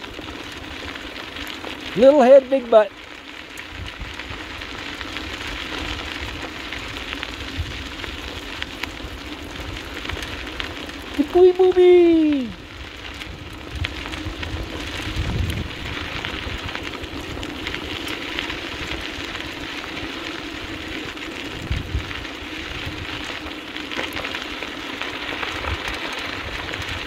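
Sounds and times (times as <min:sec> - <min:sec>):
wheels and paws crunching gravel: 0:00.0 - 0:27.0.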